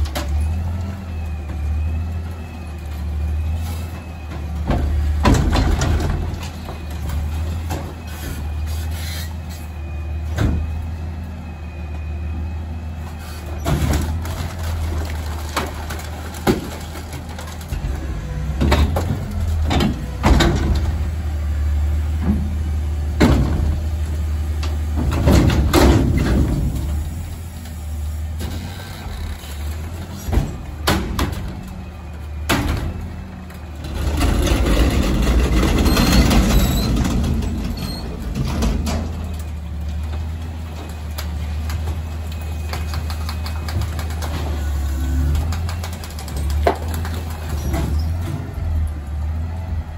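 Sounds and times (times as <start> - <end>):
garbage truck engine running: 0.0 - 49.9.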